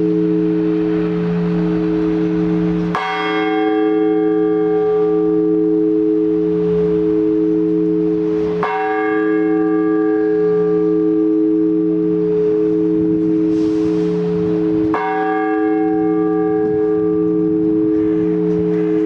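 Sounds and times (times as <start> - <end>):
large church bell struck: 0.0 - 19.0.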